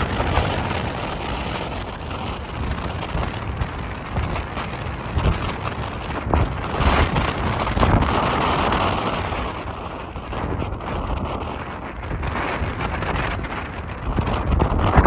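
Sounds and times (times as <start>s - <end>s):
volcanic eruption roaring: 0.0s - 15.0s
wind buffeting microphone: 0.0s - 15.0s.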